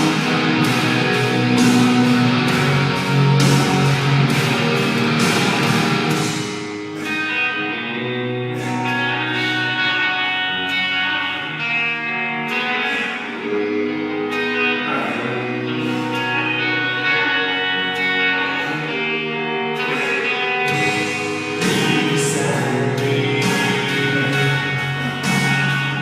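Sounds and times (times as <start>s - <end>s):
guitar-led music: 0.0s - 26.0s.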